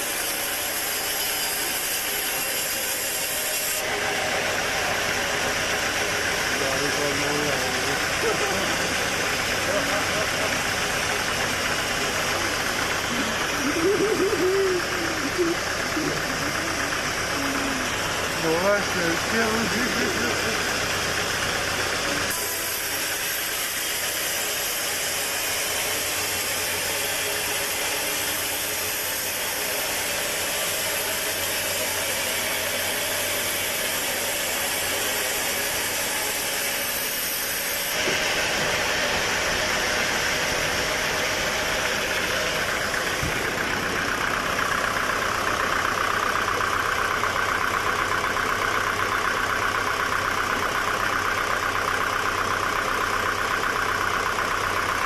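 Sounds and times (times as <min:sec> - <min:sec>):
high machine whine: 0:00.0 - 0:55.0
sawmill machinery droning: 0:00.0 - 0:55.0.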